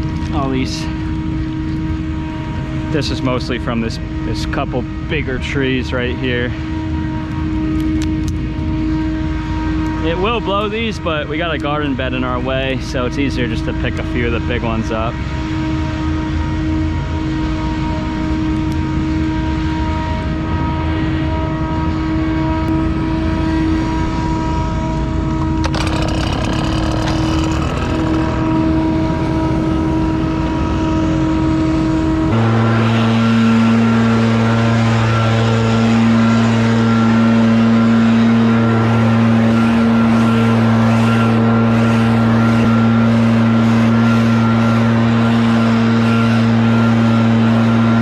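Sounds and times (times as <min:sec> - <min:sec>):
blower engine running: 0:00.0 - 0:48.0.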